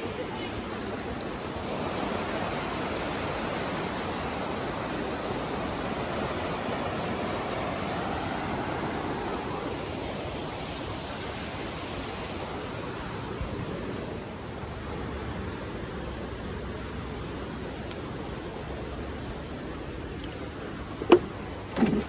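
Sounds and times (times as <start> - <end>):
waterfall rushing: 0.0 - 21.7.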